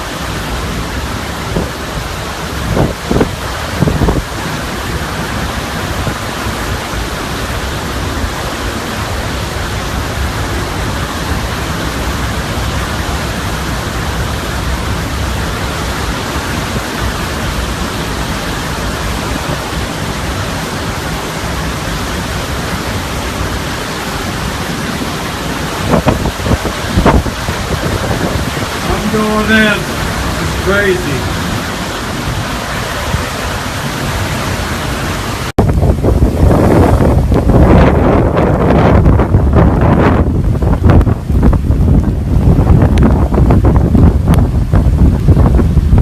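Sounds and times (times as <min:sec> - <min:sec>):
heavy rain: 0:00.0 - 0:46.0
hurricane wind: 0:00.0 - 0:46.0.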